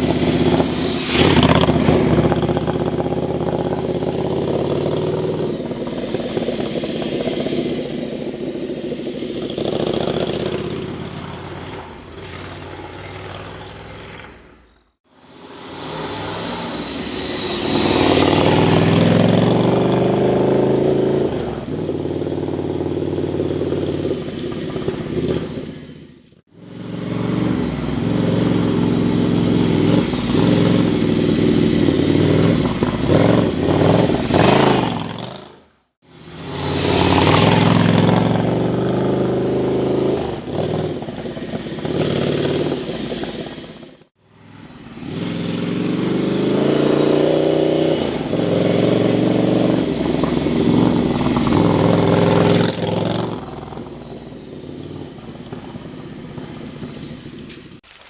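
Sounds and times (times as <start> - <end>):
motorcycle engine accelerating: 0.0 - 57.8.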